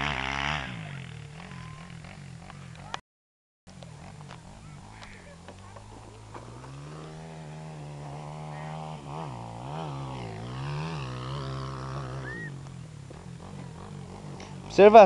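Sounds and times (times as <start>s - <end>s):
distant motorbike engine revving: 0.0s - 3.0s, 3.7s - 15.0s.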